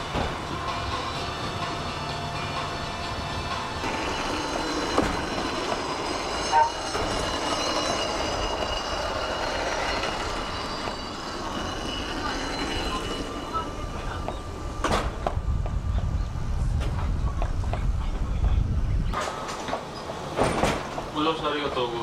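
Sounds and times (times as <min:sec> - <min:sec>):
cable car wheels rumbling and squealing: 0:00.0 - 0:22.0
high steady whining tones: 0:00.0 - 0:22.0.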